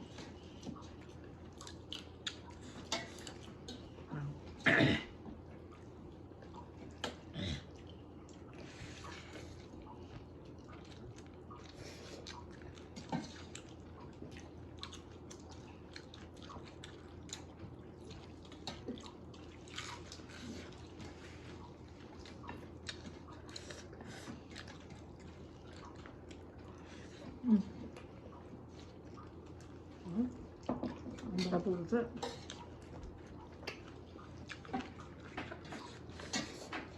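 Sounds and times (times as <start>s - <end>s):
people chewing food: 0.0s - 36.9s.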